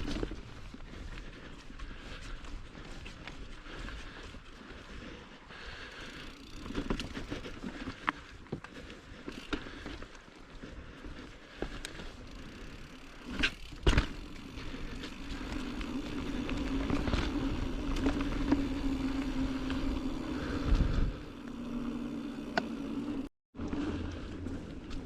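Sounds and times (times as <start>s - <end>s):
bike tyres rumbling on dirt trail: 0.0s - 25.0s
buzzing hum from bike: 0.0s - 25.0s.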